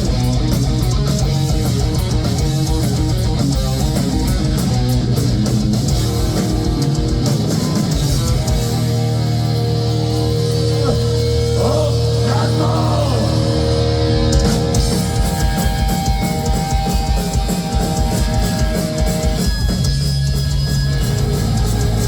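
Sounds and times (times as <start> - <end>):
rapid bass drum strikes: 0.0 - 9.0, 12.9 - 22.0
distorted electric guitar: 0.0 - 22.0.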